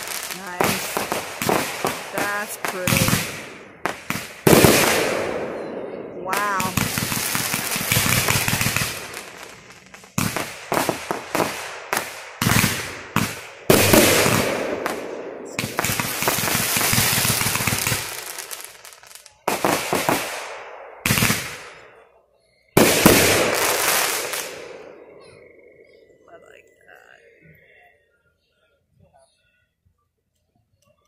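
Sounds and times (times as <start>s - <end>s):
fireworks booms: 0.0s - 22.0s, 22.8s - 26.0s
fireworks rapid bangs and crackle: 0.0s - 26.0s.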